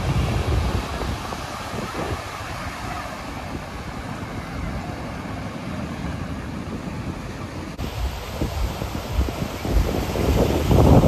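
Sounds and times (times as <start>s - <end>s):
surf washing onto beach: 0.0s - 11.0s
wind buffeting microphone: 0.0s - 11.0s.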